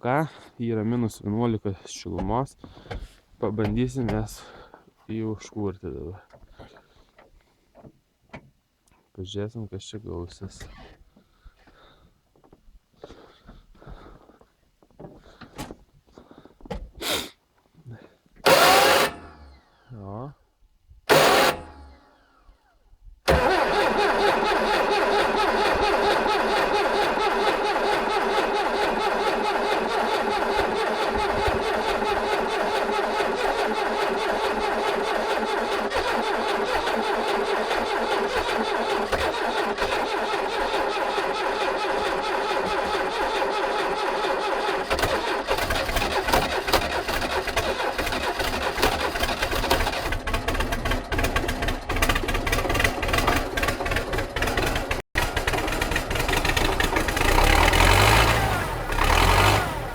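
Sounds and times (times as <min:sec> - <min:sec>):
diesel engine cranking: 0:00.1 - 0:07.3, 0:10.3 - 0:17.2, 0:18.0 - 0:19.6, 0:21.0 - 0:22.2, 0:23.3 - 0:59.9.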